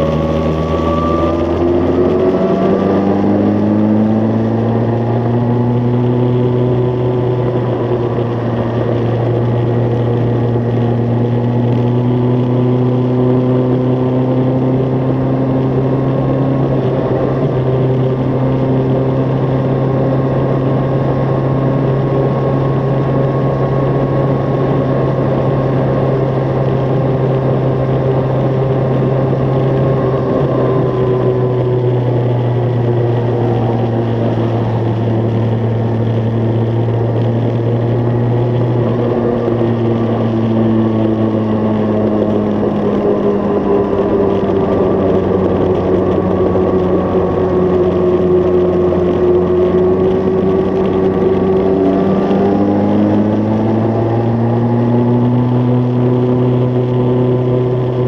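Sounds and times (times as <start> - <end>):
motorcycle engine under way: 0.0 - 58.0
wind rush: 0.0 - 58.0.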